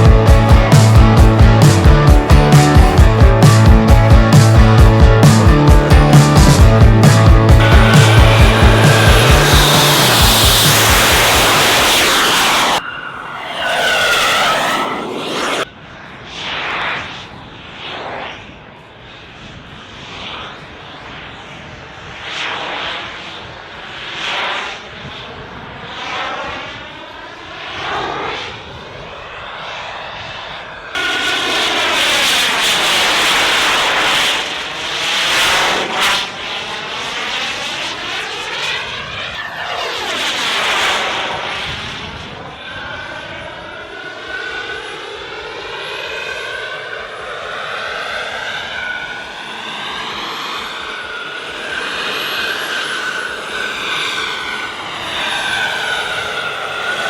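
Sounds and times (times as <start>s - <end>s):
model aircraft engine flying passes: 6.2s - 57.0s.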